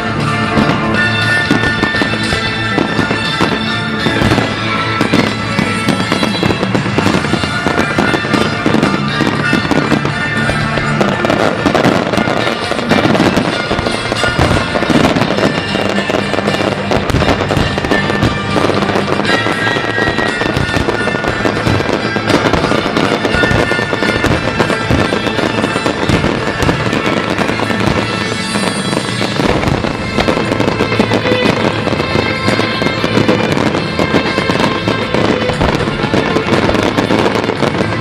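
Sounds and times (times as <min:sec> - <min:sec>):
fireworks bangs and crackles: 0:00.0 - 0:38.0
music playing: 0:00.0 - 0:38.0.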